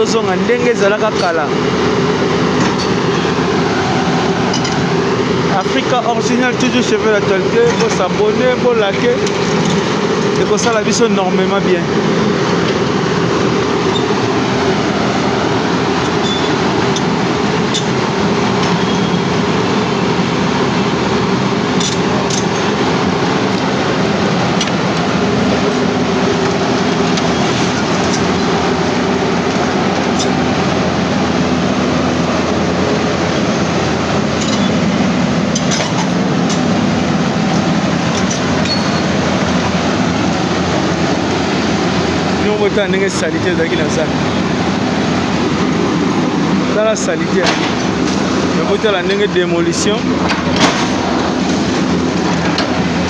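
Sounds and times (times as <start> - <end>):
heavy engine running: 0.0 - 53.0
loud continuous rumbling: 0.0 - 53.0.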